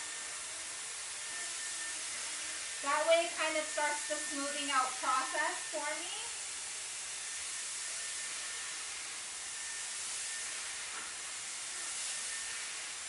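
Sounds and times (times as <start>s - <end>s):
hair dryer blowing air: 0.0s - 13.0s.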